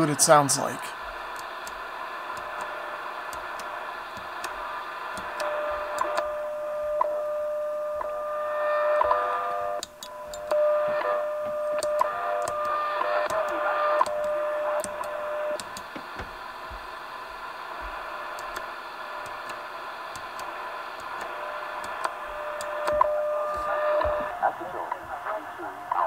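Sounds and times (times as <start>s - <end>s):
radio static hiss: 0.0s - 26.0s
steady radio tone with ticks: 0.0s - 26.0s.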